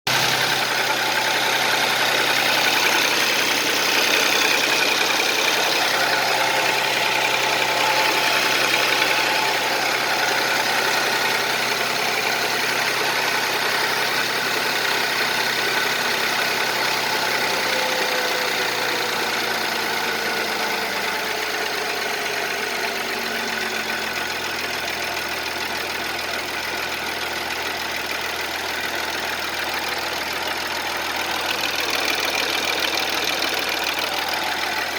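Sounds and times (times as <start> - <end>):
engine idling with knock: 0.1 - 34.9.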